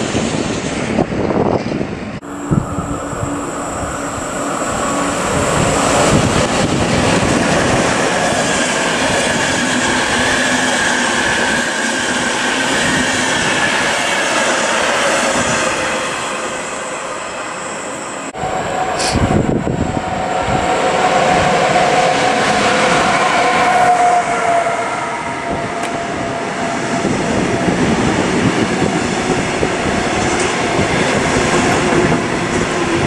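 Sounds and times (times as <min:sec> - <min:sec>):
train wheels rumbling on rails: 0:00.0 - 0:17.4, 0:18.2 - 0:33.0.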